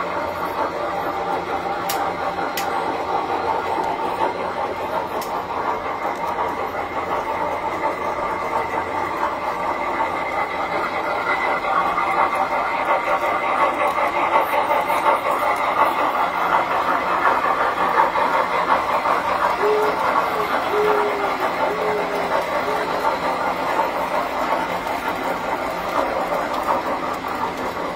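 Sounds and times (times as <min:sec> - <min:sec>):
model trains rattling on metal track: 0:00.0 - 0:27.9.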